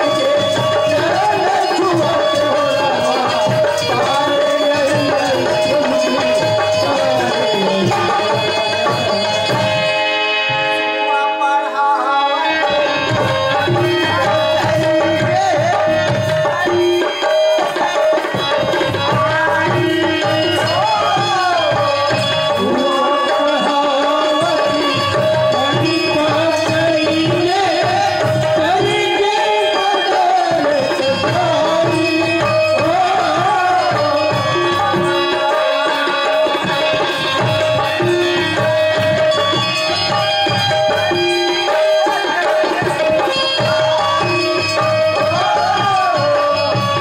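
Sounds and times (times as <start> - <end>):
hand drums fast rhythm: 0.0 - 10.0, 12.7 - 47.0
keyboard melody: 0.0 - 47.0.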